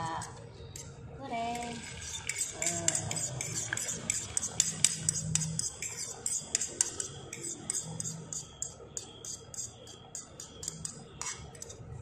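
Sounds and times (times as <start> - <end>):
spoon scraping a bowl: 1.6 - 11.9.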